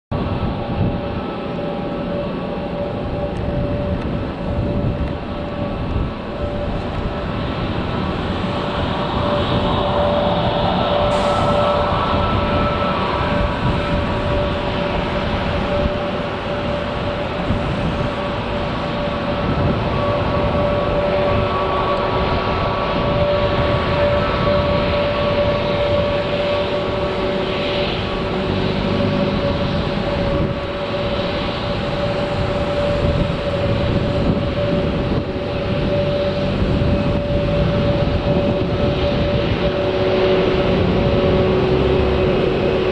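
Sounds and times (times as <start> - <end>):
jet engines rumbling and whining: 0.1 - 42.9.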